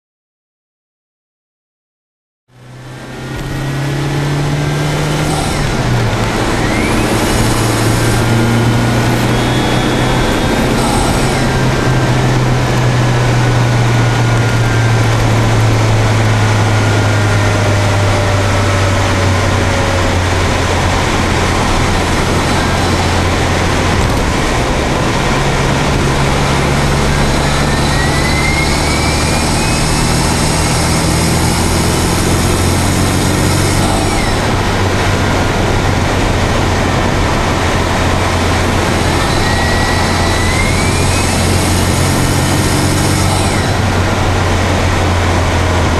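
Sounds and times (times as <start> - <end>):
car engine intake drone: 2.5 - 45.9
turbo whistle rising: 3.1 - 35.6, 37.8 - 44.2.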